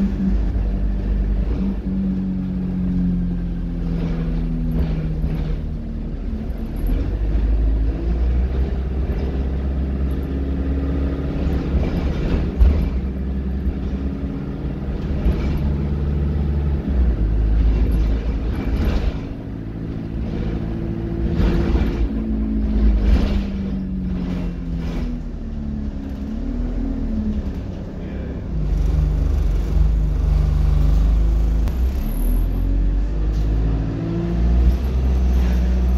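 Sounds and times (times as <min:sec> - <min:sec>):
bus engine and gearbox whining: 0:00.0 - 0:35.9.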